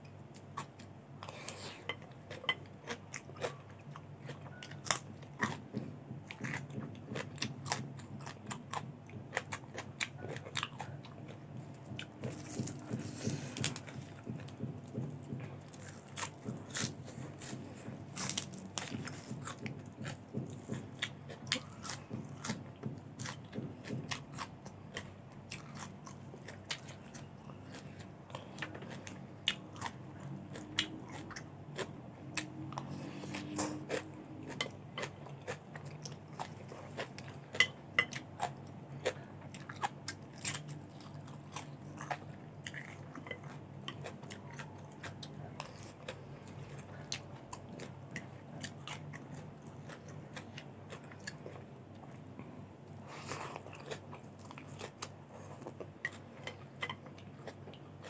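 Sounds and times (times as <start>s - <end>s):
chewing crunchy vegetables: 0.3s - 58.0s.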